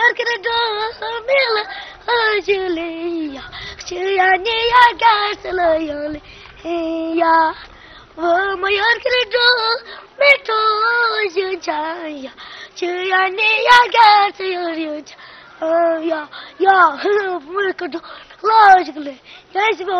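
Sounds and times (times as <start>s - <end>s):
boy singing: 0.0s - 19.9s.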